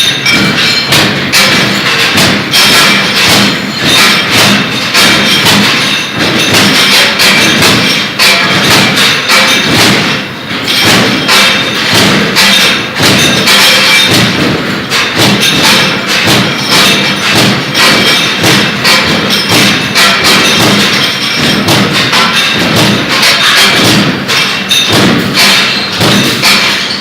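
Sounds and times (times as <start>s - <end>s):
punch press thudding: 0.0s - 27.0s.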